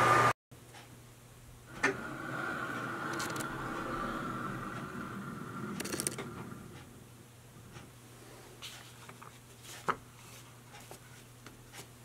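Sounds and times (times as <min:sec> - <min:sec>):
low steady hum: 0:00.6 - 0:12.0.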